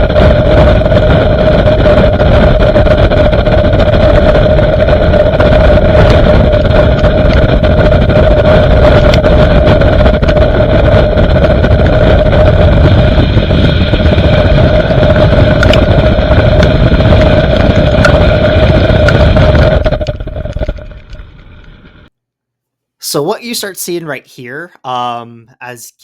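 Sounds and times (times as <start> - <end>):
constant droning tone: 0.0 - 22.1
road and wind roar: 0.0 - 22.1.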